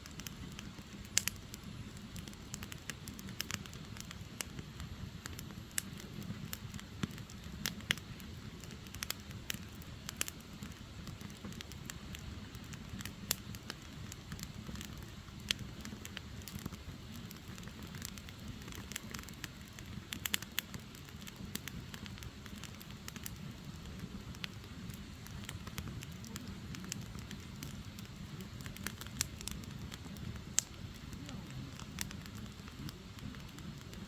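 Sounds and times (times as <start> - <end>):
firewood crackling and popping: 0.0 - 34.0
low rumble of flames: 0.0 - 34.0.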